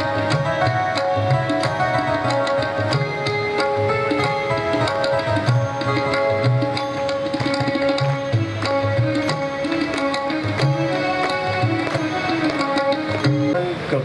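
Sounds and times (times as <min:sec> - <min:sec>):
long held melodic notes: 0:00.0 - 0:14.0
tabla drumming: 0:00.0 - 0:14.0.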